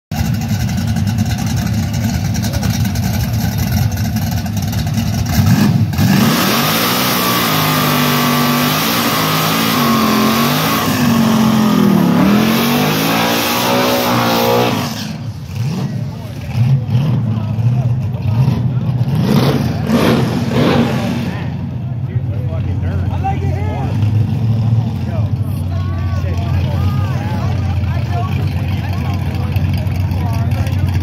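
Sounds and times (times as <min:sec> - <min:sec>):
drag car engine revving: 0:00.1 - 0:31.0.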